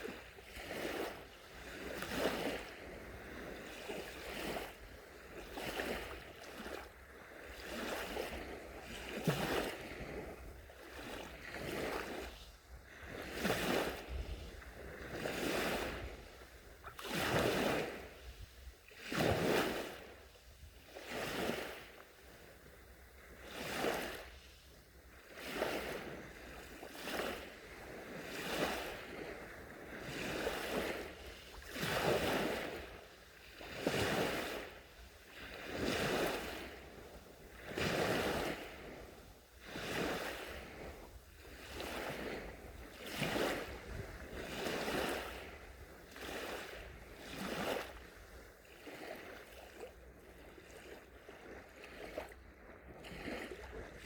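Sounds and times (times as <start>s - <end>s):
gentle sea waves washing ashore: 0.0s - 54.0s.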